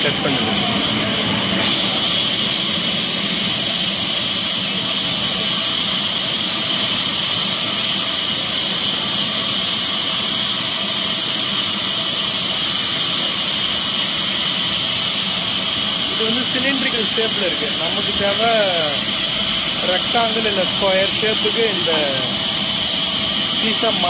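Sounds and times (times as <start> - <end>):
band saw hissing: 0.0 - 24.0
mechanical hum: 0.0 - 24.0.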